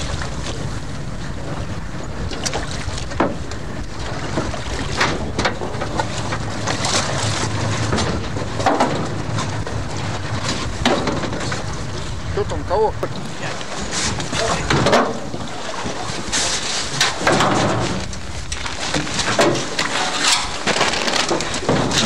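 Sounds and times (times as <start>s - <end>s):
outboard motor running: 0.0s - 22.0s
water splashes: 0.0s - 22.0s
wind buffeting microphone: 0.0s - 22.0s.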